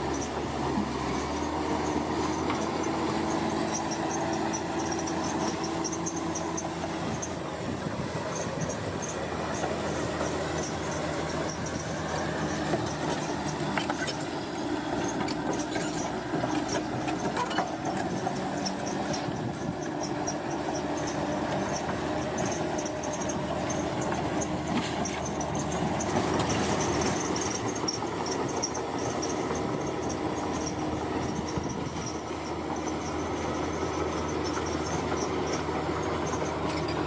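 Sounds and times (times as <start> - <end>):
bulldozer diesel engine running: 0.0 - 37.0
crawler tracks squealing and clicking: 0.0 - 37.0.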